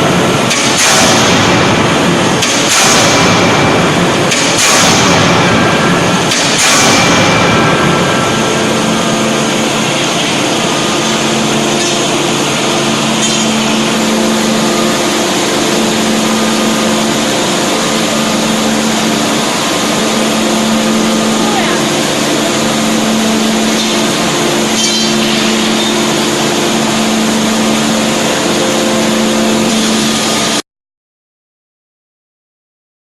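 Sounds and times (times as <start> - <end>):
hydraulic machine hum: 0.0 - 30.6
forging hammer strikes: 0.1 - 30.6.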